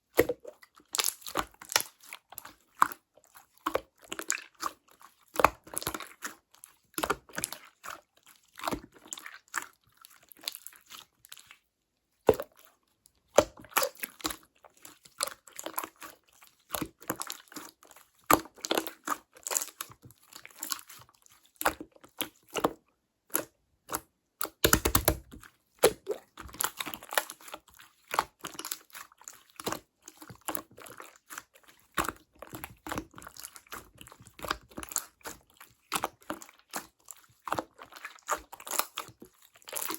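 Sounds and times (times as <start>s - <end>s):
hands squishing slime: 0.1s - 11.6s, 12.2s - 39.9s.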